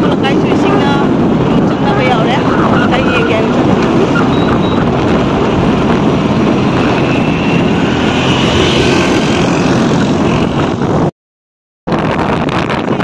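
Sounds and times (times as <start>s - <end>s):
vehicle engine and road noise: 0.0s - 11.1s, 11.9s - 13.0s
wind buffeting microphone: 0.0s - 11.1s, 11.9s - 13.0s.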